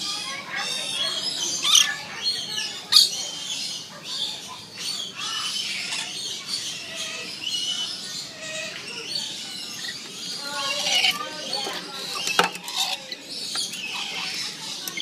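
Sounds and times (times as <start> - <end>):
lorikeets screeching and chattering: 0.0 - 15.0.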